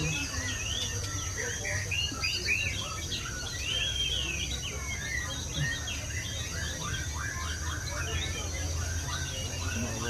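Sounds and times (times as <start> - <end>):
birds singing whistles: 0.0 - 10.0.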